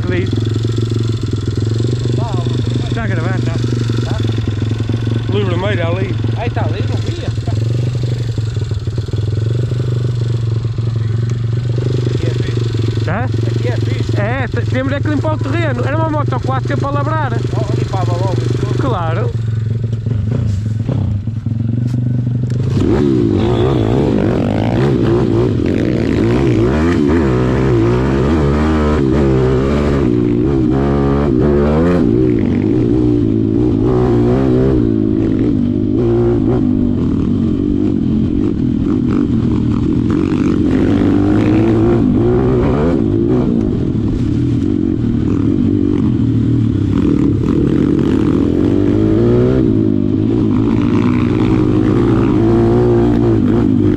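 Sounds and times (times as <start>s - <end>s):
pit bike engine revving: 0.0s - 53.9s.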